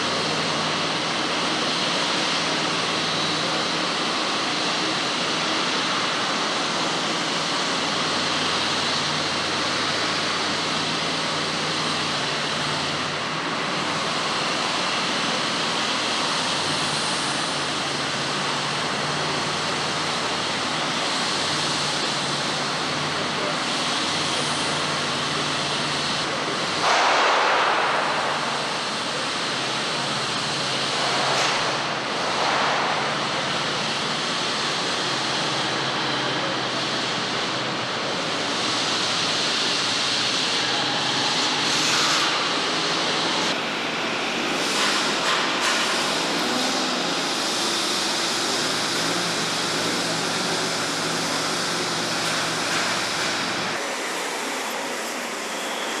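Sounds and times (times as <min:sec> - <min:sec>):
hissing machine noise: 0:00.0 - 0:56.0.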